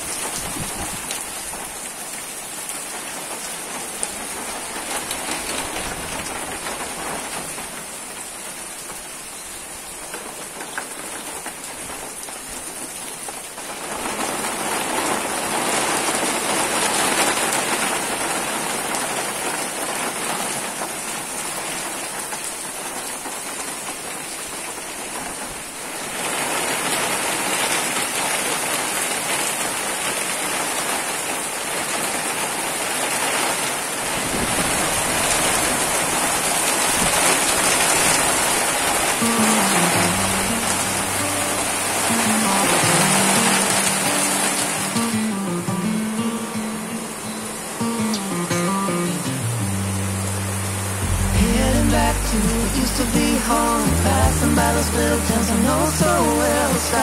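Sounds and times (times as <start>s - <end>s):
rain falling steadily: 0.0s - 57.0s.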